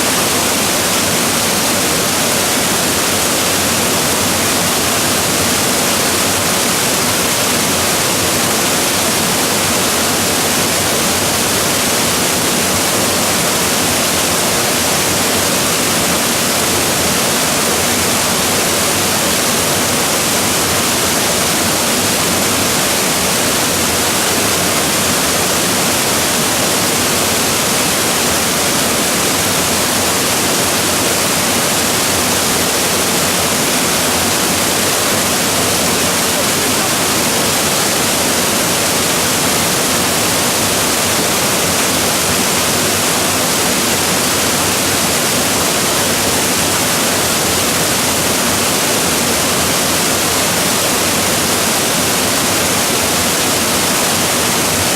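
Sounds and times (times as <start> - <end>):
waterfall crashing: 0.0 - 54.9.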